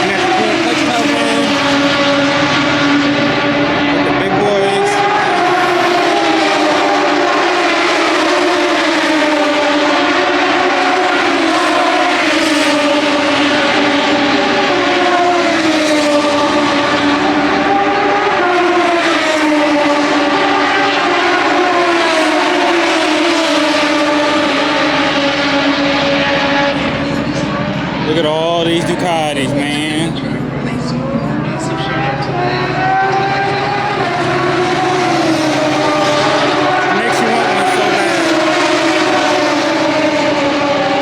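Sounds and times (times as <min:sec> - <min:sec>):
racing motorcycle engines whining: 0:00.0 - 0:41.0.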